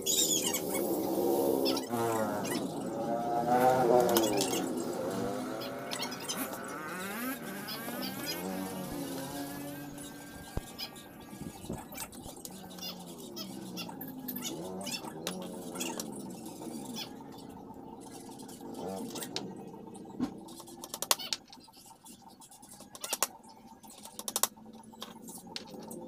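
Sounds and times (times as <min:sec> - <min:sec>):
wavering pitched background sound: 0:00.0 - 0:26.0.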